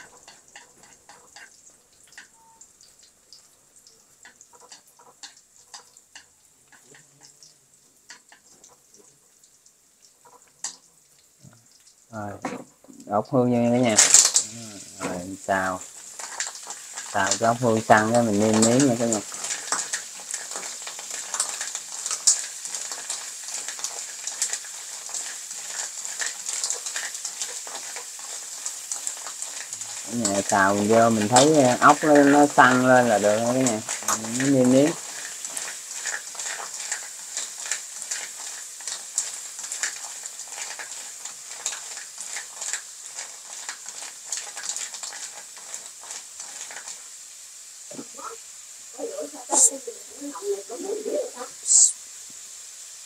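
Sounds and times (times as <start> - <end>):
garlic frying in oil: 0.0 - 53.0
snails sizzling in a pan: 0.0 - 53.0.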